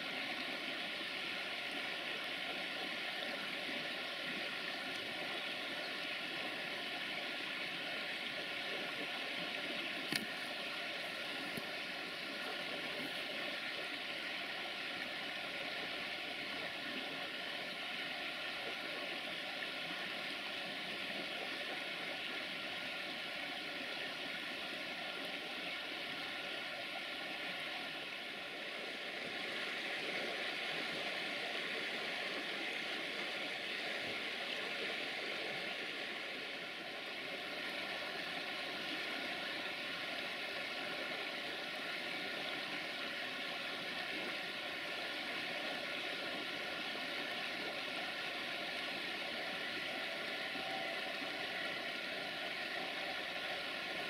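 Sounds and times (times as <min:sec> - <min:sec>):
faint steady hum: 0:00.0 - 0:54.0
river flowing over gravel: 0:00.0 - 0:54.0.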